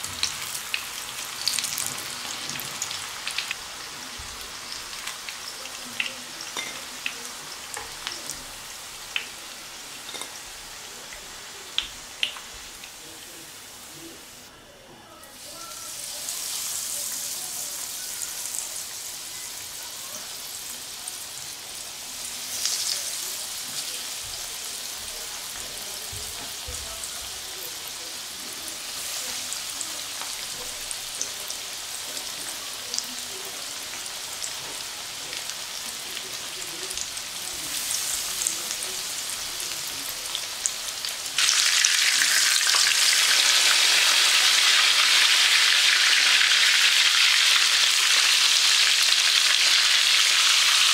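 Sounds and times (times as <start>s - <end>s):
oil sizzling in a frying pan: 0.0s - 14.6s, 15.2s - 50.9s.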